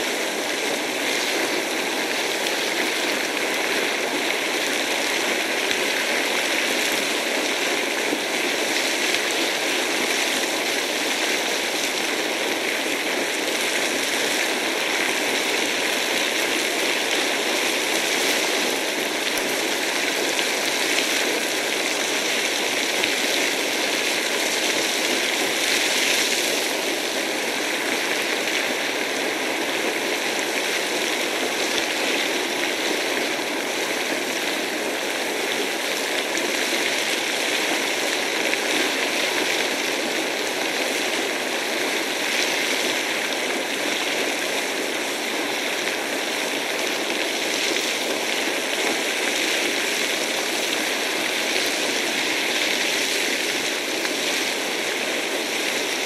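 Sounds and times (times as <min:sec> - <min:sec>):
geyser gushing water: 0:00.0 - 0:56.0.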